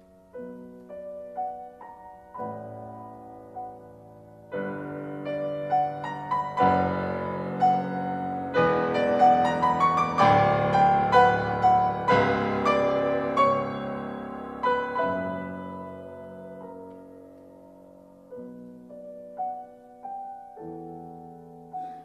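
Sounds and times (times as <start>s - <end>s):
solo classical piano: 0.0s - 22.0s.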